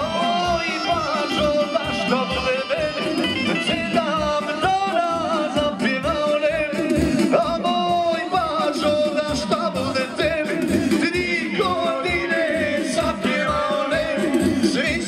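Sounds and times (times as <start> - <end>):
folk band playing: 0.0 - 15.0
steady drum beat: 0.0 - 15.0.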